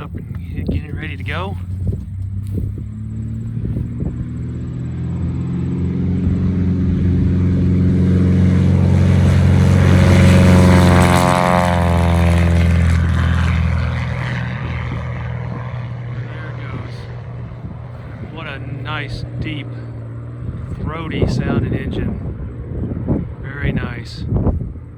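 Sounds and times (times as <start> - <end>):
propeller plane passing: 0.0 - 24.9.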